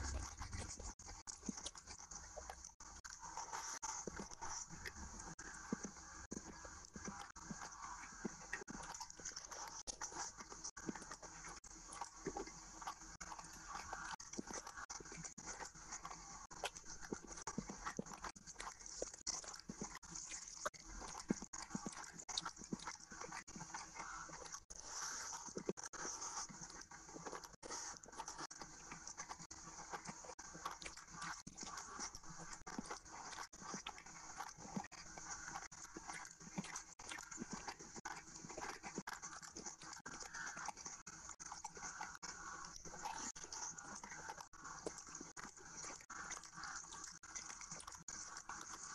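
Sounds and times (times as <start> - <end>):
chewing: 0.0 - 48.9.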